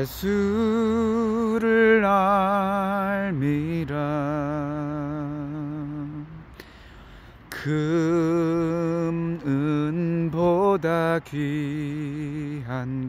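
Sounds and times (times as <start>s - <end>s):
man singing unaccompanied: 0.0s - 6.6s, 7.4s - 13.0s.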